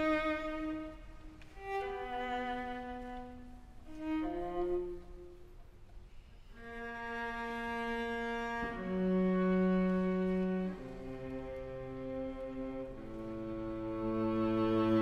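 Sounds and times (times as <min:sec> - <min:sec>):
string quartet playing: 0:00.0 - 0:15.0.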